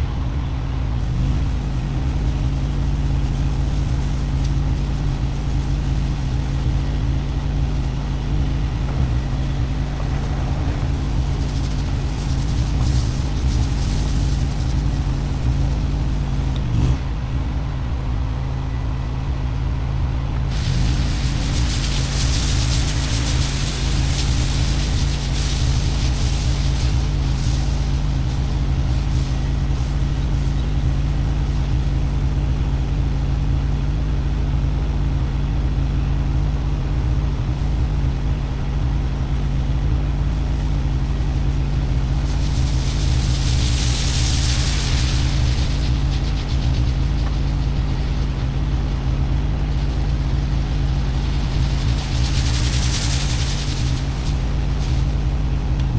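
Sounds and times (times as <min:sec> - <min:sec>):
pressure washer engine running: 0:00.8 - 0:17.3, 0:18.3 - 0:55.9
water spraying onto concrete: 0:01.0 - 0:17.0, 0:20.5 - 0:55.9.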